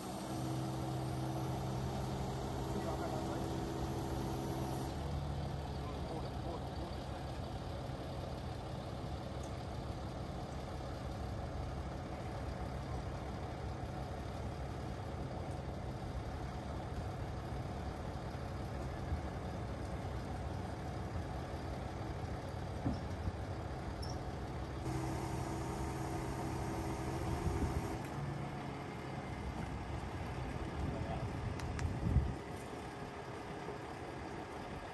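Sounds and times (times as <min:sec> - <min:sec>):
truck diesel engine running: 0:00.0 - 0:34.9.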